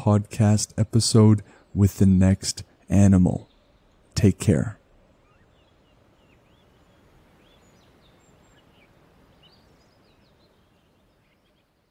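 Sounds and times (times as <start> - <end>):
faint outdoor hiss: 0.0 - 11.9.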